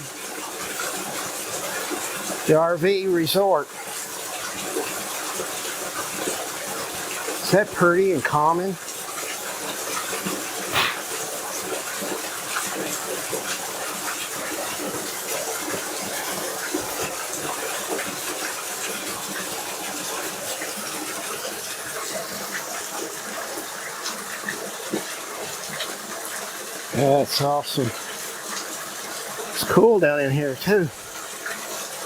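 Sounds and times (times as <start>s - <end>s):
small waterfall running: 0.0s - 32.0s.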